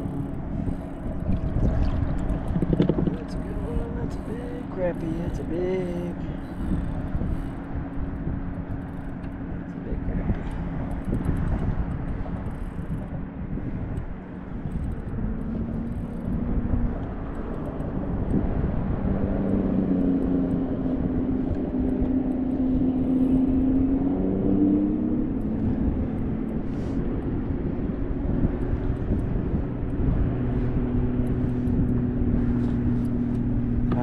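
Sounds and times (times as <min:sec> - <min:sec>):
motor droning: 0:00.0 - 0:34.0
wind on microphone: 0:00.0 - 0:34.0.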